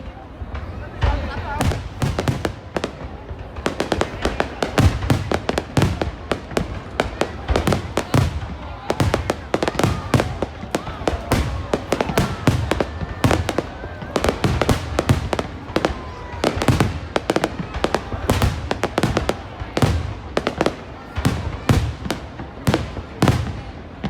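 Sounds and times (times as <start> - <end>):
fireworks bursts and crackles: 0.0 - 24.0.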